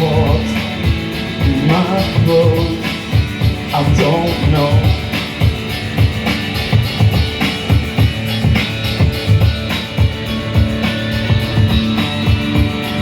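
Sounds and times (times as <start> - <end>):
drum kit beat: 0.0 - 13.0
electric guitars and bass: 0.0 - 13.0.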